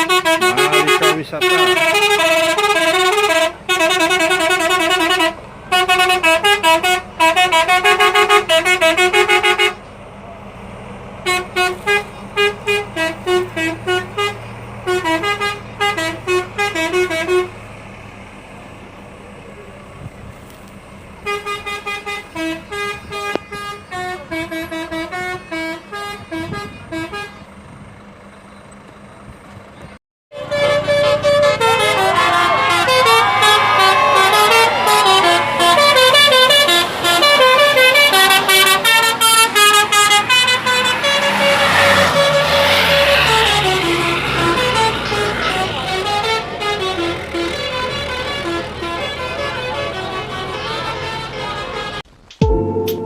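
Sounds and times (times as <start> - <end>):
multi-tone bus horn tunes: 0.0 - 9.9, 11.2 - 17.9, 21.2 - 27.8, 30.3 - 53.0.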